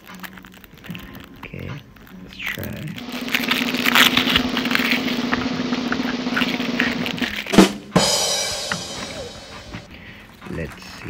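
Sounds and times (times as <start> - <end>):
card edges crackling: 0.0 - 9.9.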